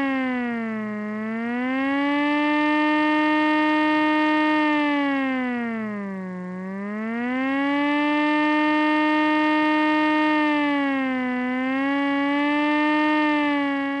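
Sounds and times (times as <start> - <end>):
air-raid siren wailing: 0.0 - 14.0.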